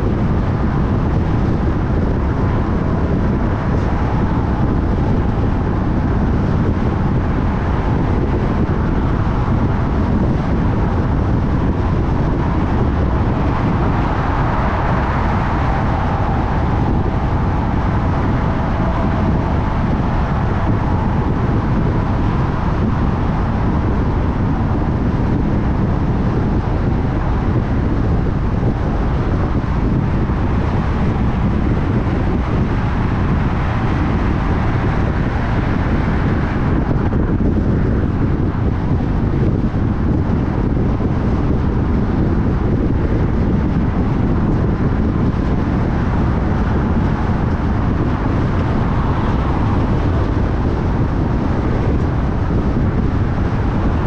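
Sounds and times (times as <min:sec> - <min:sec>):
car road noise: 0:00.0 - 0:54.0
faint whine: 0:00.0 - 0:54.0.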